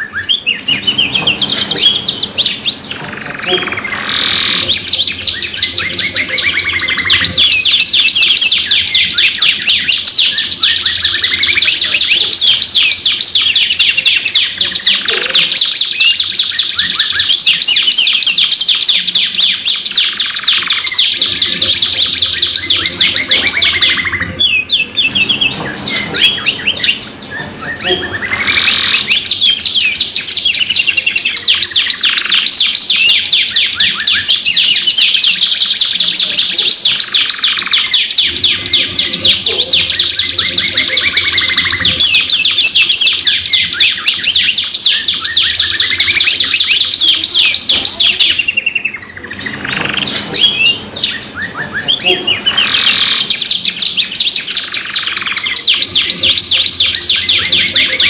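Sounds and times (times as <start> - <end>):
canaries trilling: 0.0 - 58.0.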